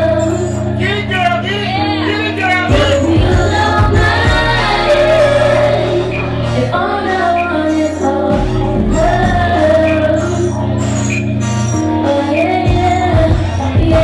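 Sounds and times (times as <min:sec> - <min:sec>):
woman singing: 0:00.0 - 0:00.8, 0:01.6 - 0:11.1, 0:11.8 - 0:14.0
held bass notes: 0:00.0 - 0:14.0.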